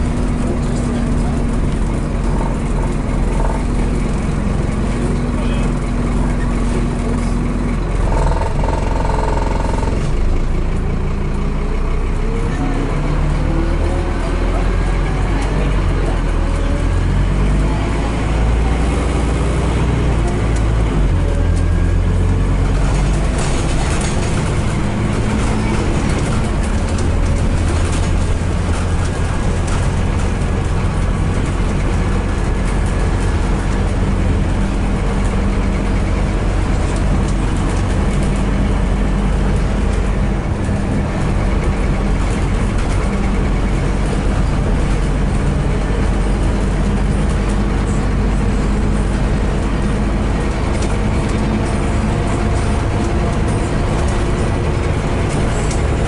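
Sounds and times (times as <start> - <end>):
bus diesel engine running: 0.0 - 56.0
road noise: 0.0 - 56.0.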